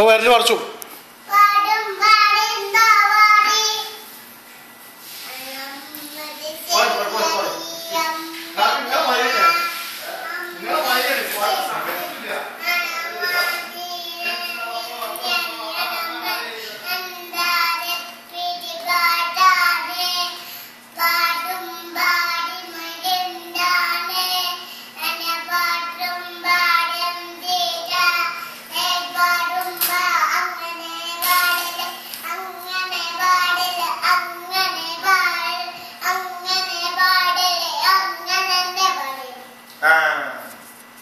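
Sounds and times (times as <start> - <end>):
child singing: 1.3 - 4.0, 5.2 - 10.7, 12.6 - 20.4, 21.0 - 39.5.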